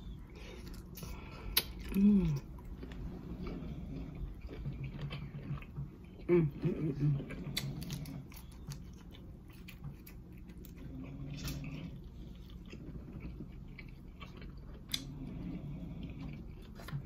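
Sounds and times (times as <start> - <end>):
chewing shrimp: 0.0 - 17.0.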